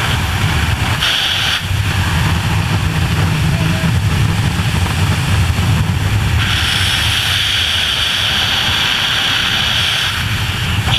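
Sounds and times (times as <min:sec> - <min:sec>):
high steady hiss: 0:00.0 - 0:10.9
wind buffeting microphone: 0:00.0 - 0:10.9.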